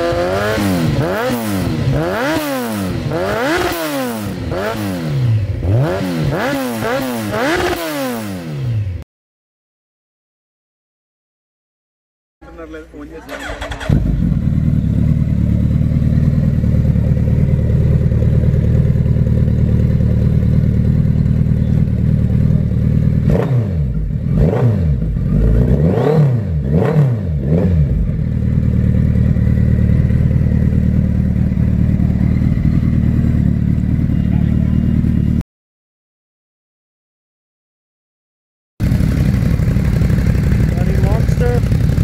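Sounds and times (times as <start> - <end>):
motorcycle engine idling and revving: 0.0 - 9.0, 12.5 - 35.4, 38.8 - 42.0.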